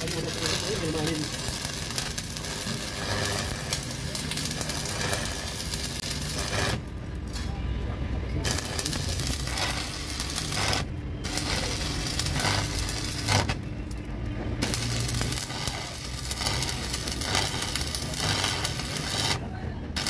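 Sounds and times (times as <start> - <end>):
welding arc crackling and sizzling: 0.0 - 7.6, 8.4 - 20.0.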